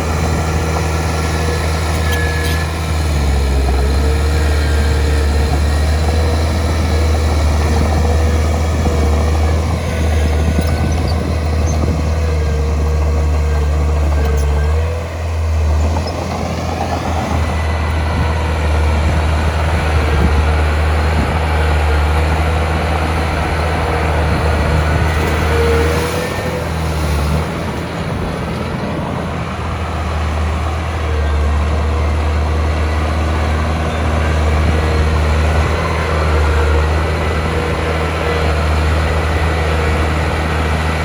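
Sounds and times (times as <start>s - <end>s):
heavy diesel engine droning: 0.0s - 41.0s.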